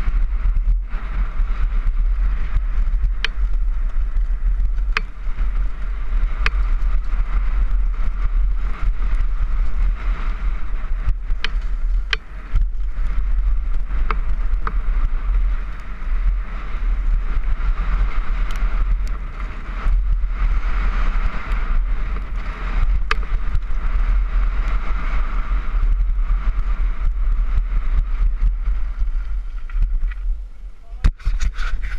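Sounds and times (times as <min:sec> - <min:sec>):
bike clicks and knocks over bumps: 0:00.0 - 0:31.9
bike tyres on dirt: 0:00.0 - 0:31.9
wind rumble on microphone: 0:00.0 - 0:31.9.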